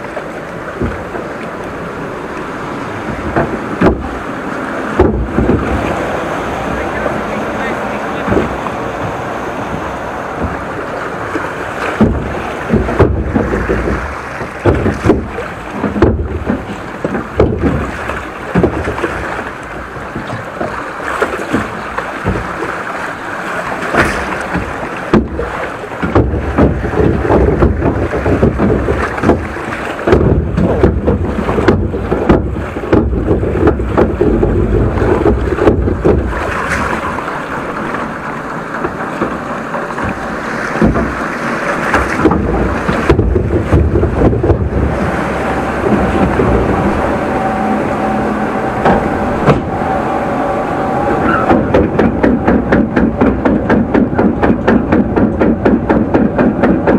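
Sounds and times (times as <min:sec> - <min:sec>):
rushing splashing water: 0:00.0 - 0:56.9
wind buffeting microphone: 0:00.0 - 0:56.9
short knocks: 0:03.0 - 0:04.3, 0:04.9 - 0:06.0, 0:08.1 - 0:22.6, 0:23.8 - 0:38.0, 0:38.8 - 0:56.9.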